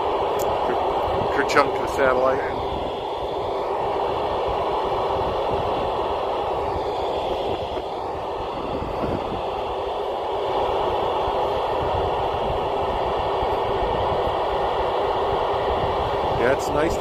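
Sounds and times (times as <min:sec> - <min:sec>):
radio static hiss: 0:00.0 - 0:17.0
wind buffeting microphone: 0:00.0 - 0:17.0.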